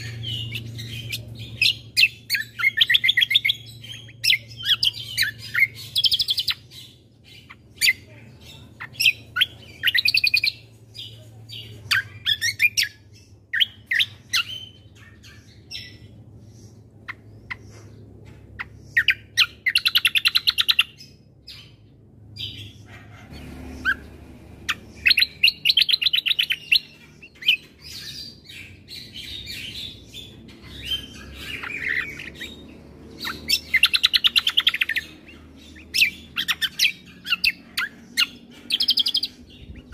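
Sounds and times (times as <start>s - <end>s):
songbird trilling: 0.0s - 21.8s, 22.4s - 39.9s
bird chirps: 0.0s - 39.9s.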